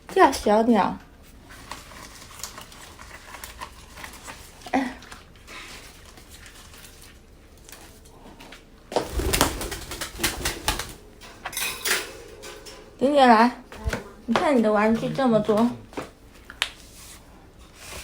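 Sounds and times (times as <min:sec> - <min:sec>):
rustling and clattering: 0:01.3 - 0:18.0.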